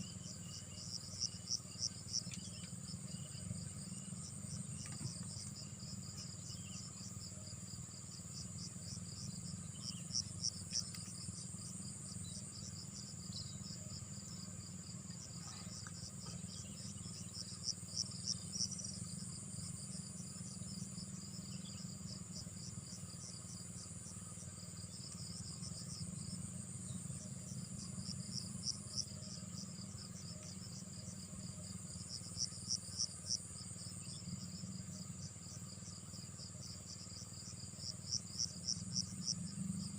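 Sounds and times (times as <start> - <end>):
high insect trill: 0.0 - 39.9
insects chirping: 0.0 - 39.9.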